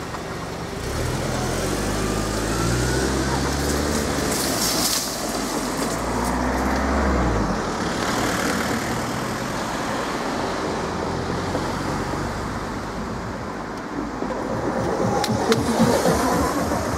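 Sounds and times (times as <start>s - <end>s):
cars passing: 0.0s - 16.9s.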